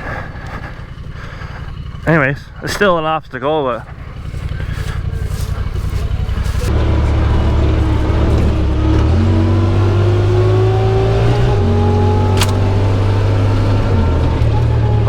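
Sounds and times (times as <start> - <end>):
off-road vehicle engine under throttle: 0.0 - 15.0.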